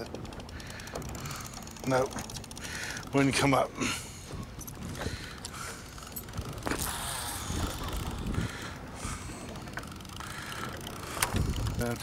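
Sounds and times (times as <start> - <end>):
fishing reel gears cranking: 0.0 - 3.6, 4.6 - 12.0.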